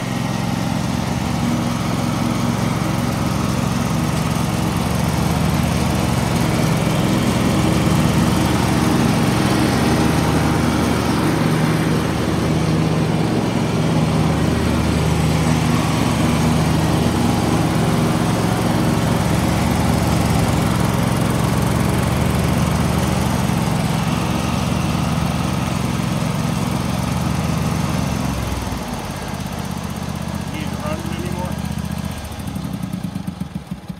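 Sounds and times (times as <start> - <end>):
lawn tractor engine running: 0.0 - 33.9.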